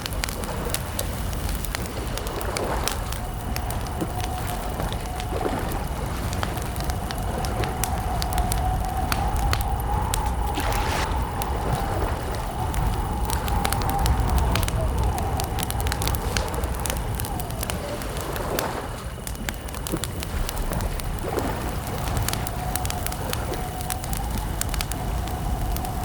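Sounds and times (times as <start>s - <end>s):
campfire crackling and popping: 0.0s - 26.0s
low rumble: 0.0s - 26.0s.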